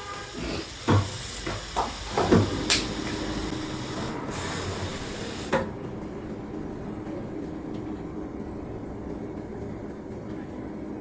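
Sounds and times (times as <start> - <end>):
air hiss: 0.0 - 11.0
metal knocks: 0.9 - 11.0.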